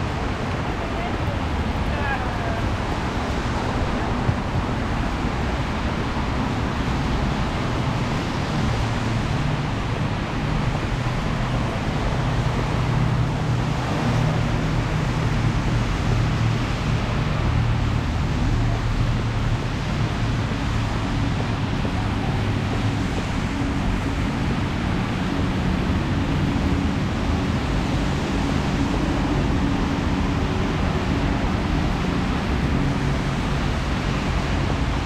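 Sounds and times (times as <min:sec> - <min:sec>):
engines rumbling: 0:00.0 - 0:35.0
rain: 0:00.0 - 0:35.0
tyres hissing on wet road: 0:00.0 - 0:35.0.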